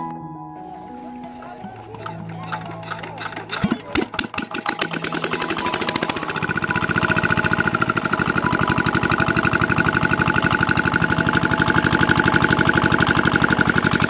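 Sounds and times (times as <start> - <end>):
small diesel engine chugging: 1.2 - 14.0.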